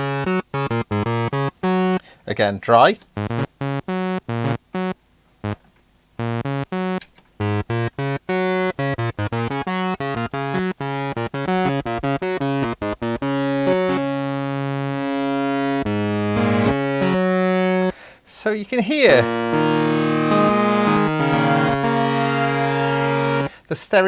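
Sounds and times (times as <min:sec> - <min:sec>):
synthesizer staccato notes: 0:00.0 - 0:02.0, 0:03.2 - 0:05.6, 0:06.2 - 0:17.9, 0:19.2 - 0:23.5.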